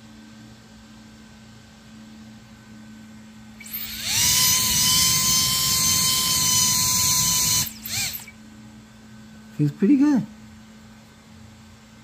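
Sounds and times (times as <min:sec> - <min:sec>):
electric fan high-pitched whine: 0:00.0 - 0:12.0.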